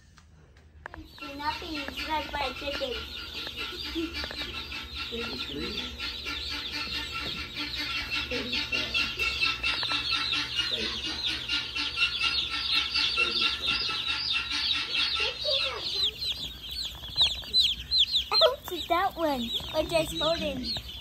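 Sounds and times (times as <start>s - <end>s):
baby chicks peeping: 0.2s - 21.0s.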